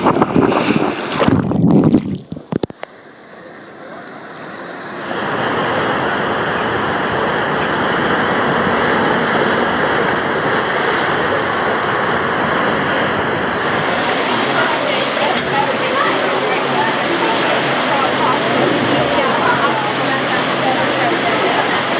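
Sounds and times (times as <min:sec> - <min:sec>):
water splashing loudly: 0:00.0 - 0:02.7, 0:05.2 - 0:21.9
water rushing from slide flumes: 0:00.0 - 0:21.9.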